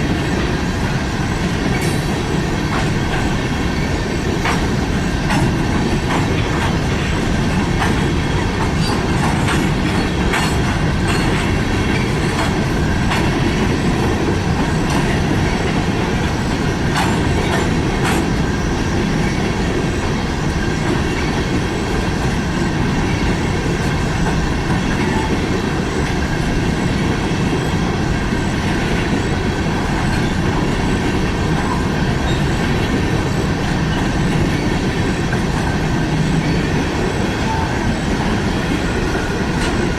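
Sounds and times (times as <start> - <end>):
freight train wheels rumbling on rail: 0.0 - 39.9
sharp clicks of train wheels: 0.0 - 39.9.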